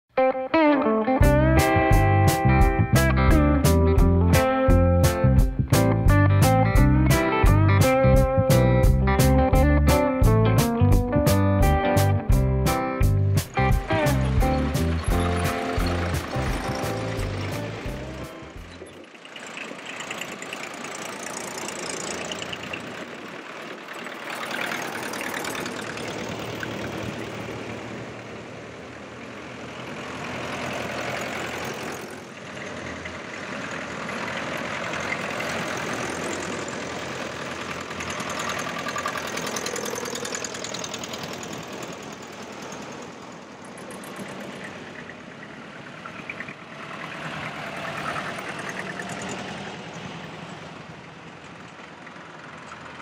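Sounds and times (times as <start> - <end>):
tractor engines chugging past: 1.2 - 53.0.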